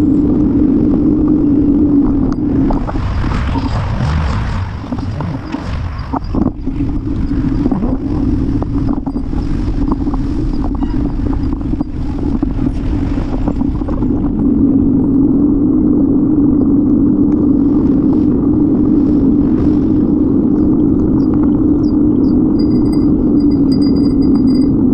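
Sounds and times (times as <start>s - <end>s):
wind and road rumble: 0.0s - 24.9s.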